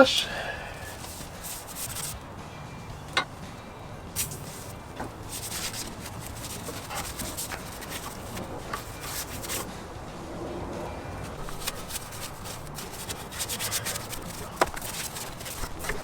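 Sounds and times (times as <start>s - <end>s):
brush scrubbing engine surfaces: 0.0s - 2.2s, 4.1s - 9.8s, 11.0s - 16.0s.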